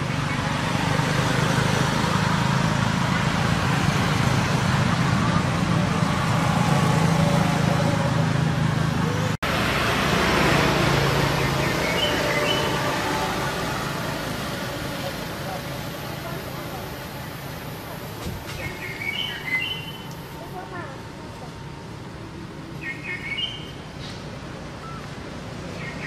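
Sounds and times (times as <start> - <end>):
vehicle engine running: 0.0 - 22.8
road traffic noise: 0.0 - 26.0.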